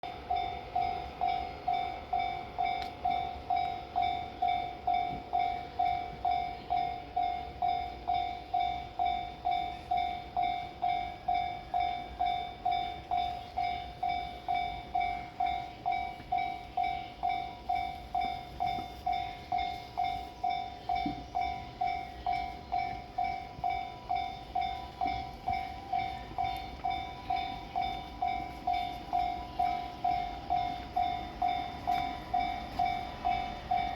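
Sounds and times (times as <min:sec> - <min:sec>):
train rumble: 0:00.0 - 0:33.9
level crossing alarm ringing: 0:00.1 - 0:33.9.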